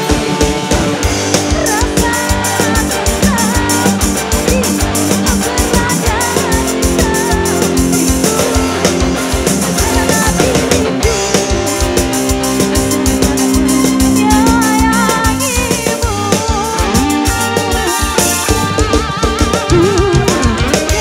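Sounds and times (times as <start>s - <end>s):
drums: 0.0s - 21.0s
electric guitar: 0.0s - 21.0s
live band music: 0.0s - 21.0s.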